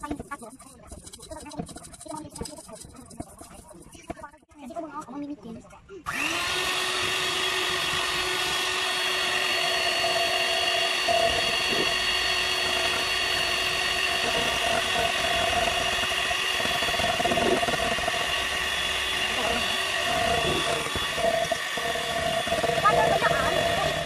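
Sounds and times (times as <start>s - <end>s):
electric hand mixer whisking: 0.0s - 4.1s, 6.1s - 24.0s.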